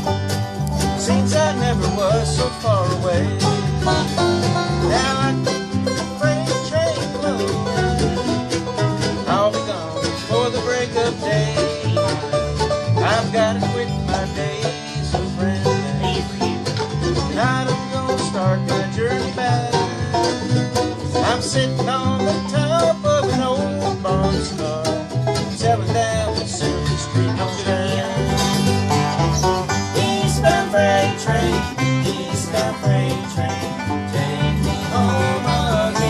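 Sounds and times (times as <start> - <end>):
picked banjo: 0.0 - 36.0
strummed acoustic guitars: 0.0 - 36.0.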